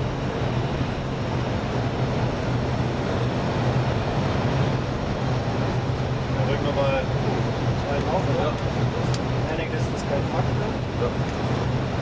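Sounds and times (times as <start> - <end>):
rush of air in cockpit: 0.0 - 12.0.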